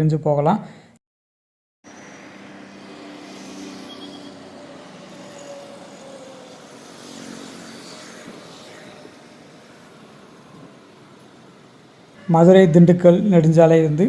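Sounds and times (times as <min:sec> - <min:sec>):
road and tyre noise: 0:01.8 - 0:14.0
vehicle engines running: 0:01.9 - 0:13.9.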